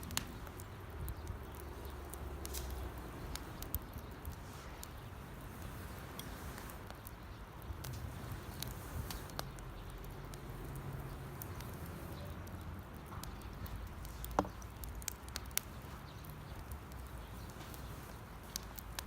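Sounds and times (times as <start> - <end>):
campfire crackling: 0.0 - 19.0
sharp pops of burning wood: 0.0 - 19.0.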